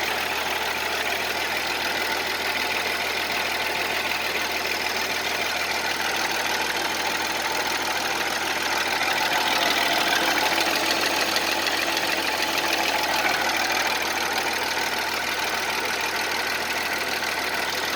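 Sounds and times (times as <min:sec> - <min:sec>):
car engine running: 0:00.0 - 0:17.9
engine knock: 0:00.0 - 0:17.9.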